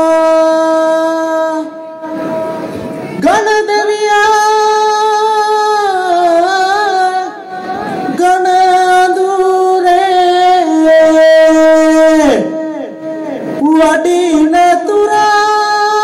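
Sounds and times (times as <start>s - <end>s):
boy singing into a microphone: 0.0s - 16.0s.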